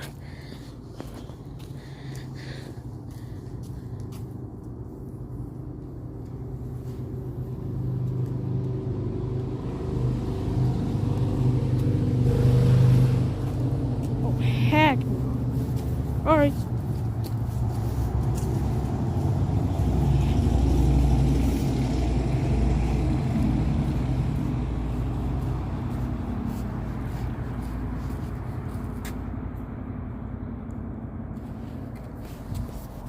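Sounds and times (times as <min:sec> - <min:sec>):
motor vehicle passing by: 0:00.0 - 0:33.0.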